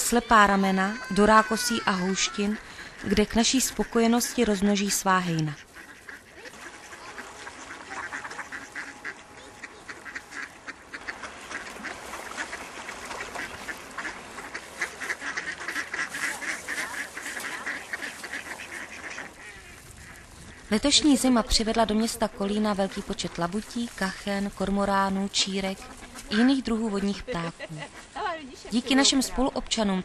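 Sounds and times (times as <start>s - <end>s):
ducks quacking: 0.0s - 29.4s.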